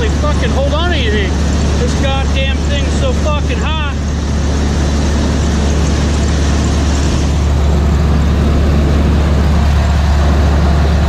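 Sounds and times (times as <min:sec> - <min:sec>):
combine engine drone: 0:00.0 - 0:11.0.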